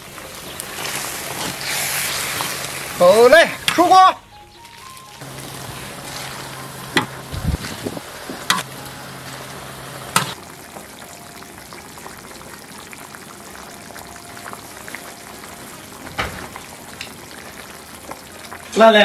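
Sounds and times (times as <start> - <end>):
broth boiling and bubbling: 0.0 - 3.8, 4.7 - 19.0.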